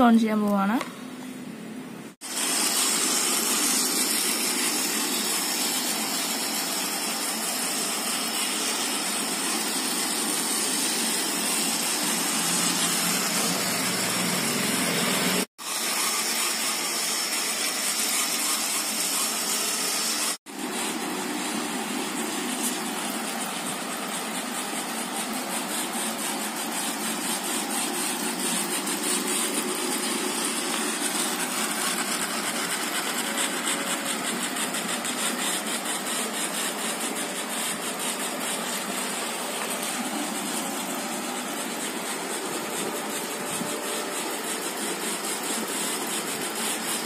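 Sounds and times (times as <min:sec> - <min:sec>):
small gear motors whirring: 0:02.2 - 0:47.0.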